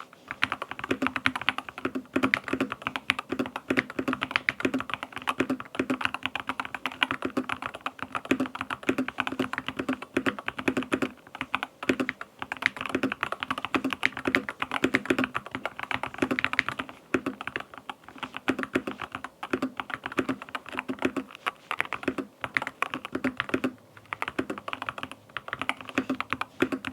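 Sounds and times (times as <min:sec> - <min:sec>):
mechanical keyboard typing: 0:00.3 - 0:26.9.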